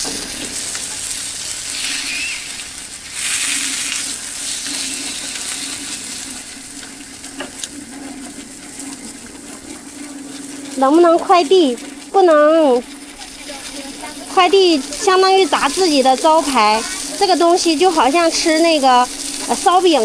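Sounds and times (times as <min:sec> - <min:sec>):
hot oil sizzling: 0:00.0 - 0:20.0
steady low hum: 0:00.0 - 0:20.0.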